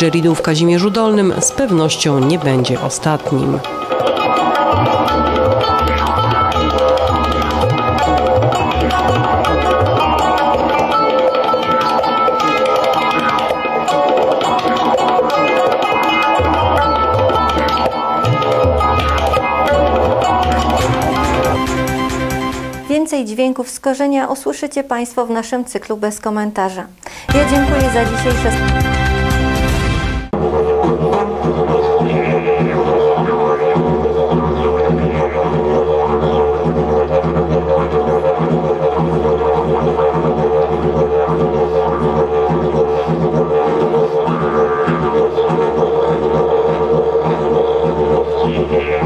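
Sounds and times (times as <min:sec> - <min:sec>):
tabla drumming: 0:00.0 - 0:23.0, 0:27.1 - 0:49.0
didgeridoo drone: 0:00.1 - 0:22.7, 0:27.3 - 0:49.0.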